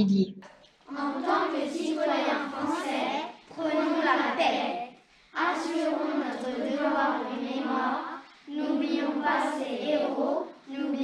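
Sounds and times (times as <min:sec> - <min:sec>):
children singing: 0:00.8 - 0:11.0.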